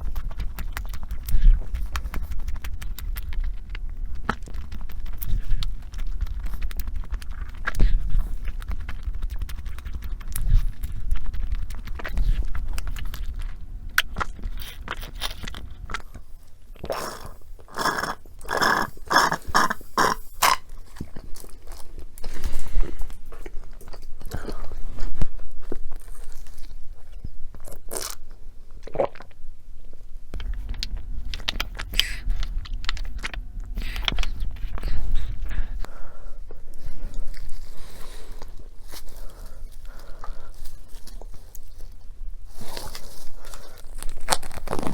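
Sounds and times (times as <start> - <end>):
person chewing crunchy food: 0.0 - 29.4, 30.3 - 44.9.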